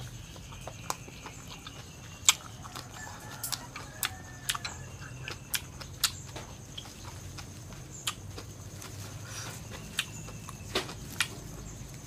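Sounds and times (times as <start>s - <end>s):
faint chicken clucking: 0.0s - 12.0s.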